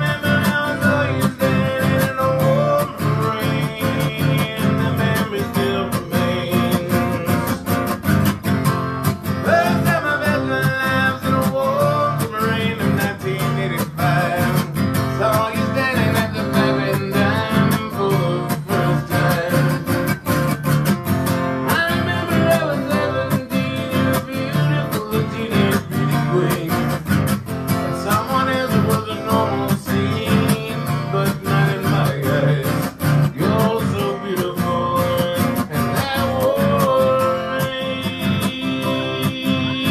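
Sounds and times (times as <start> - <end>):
man singing: 0.0 - 8.4, 9.1 - 20.8, 21.5 - 39.9
acoustic guitar strumming: 0.0 - 39.9.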